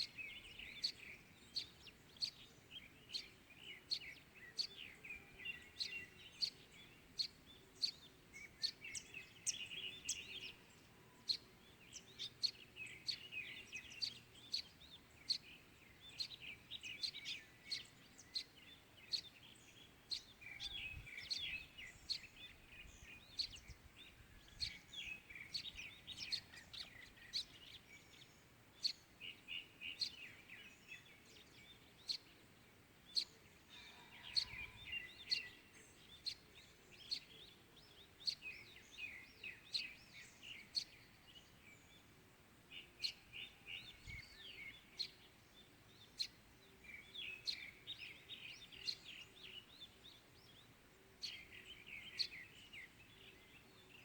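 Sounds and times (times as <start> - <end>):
bird warbling song: 0.0 - 54.0
faint background hiss: 0.0 - 54.0
small birds chirping: 0.0 - 54.0.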